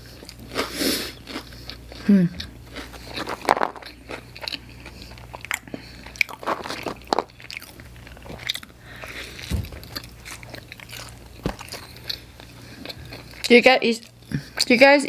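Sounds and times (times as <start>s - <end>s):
chewing crunchy food: 0.0s - 14.8s.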